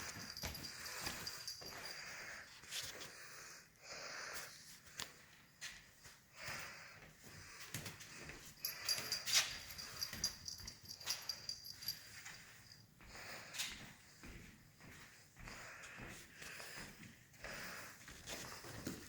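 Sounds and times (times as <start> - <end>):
cat breathing and sniffing: 0.0 - 5.3, 6.2 - 14.2, 15.1 - 19.0.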